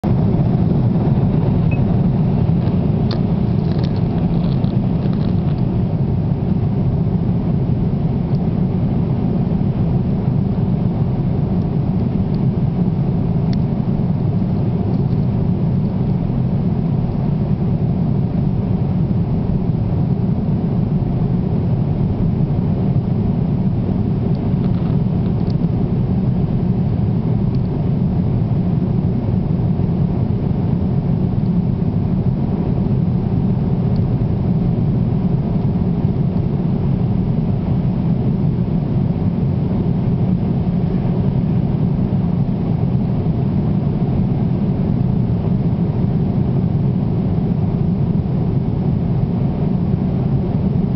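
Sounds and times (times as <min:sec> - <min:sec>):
aircraft cabin rumble: 0:00.0 - 0:50.9.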